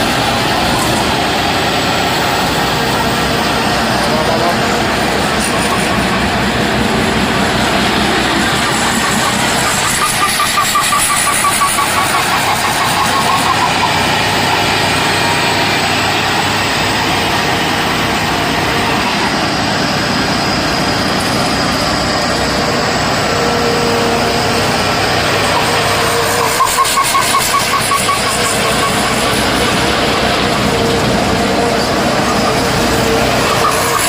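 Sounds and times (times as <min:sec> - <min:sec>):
combine harvester engine running: 0:00.0 - 0:34.0
rapidly pulsing high whine: 0:00.0 - 0:34.0.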